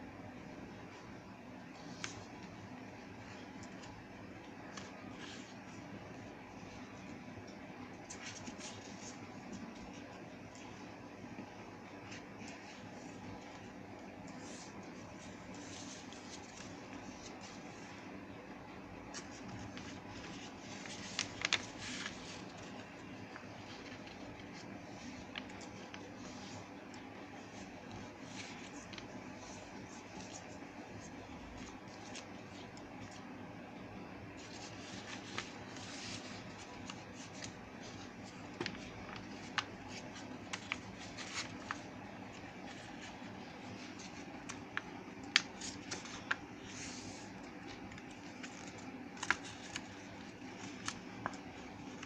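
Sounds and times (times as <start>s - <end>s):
steady low hum: 0.0s - 52.0s
paper rustling and folding: 0.3s - 52.0s
paper crinkling: 0.8s - 52.0s.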